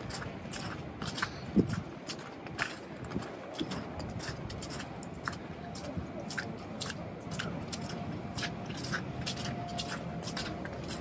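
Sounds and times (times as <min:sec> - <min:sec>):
footsteps crunching in snow: 0:00.0 - 0:11.0
low background rumble: 0:00.0 - 0:11.0.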